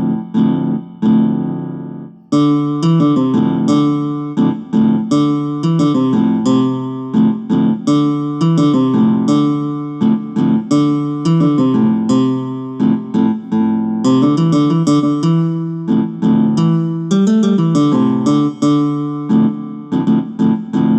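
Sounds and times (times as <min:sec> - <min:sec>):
plucked-string ringtone melody: 0:02.3 - 0:20.9.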